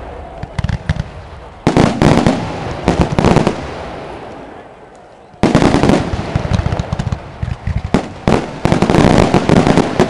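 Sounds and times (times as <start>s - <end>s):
fireworks crackling and popping: 0.0s - 4.5s, 5.3s - 10.0s
fireworks bangs: 0.0s - 4.7s, 5.4s - 10.0s.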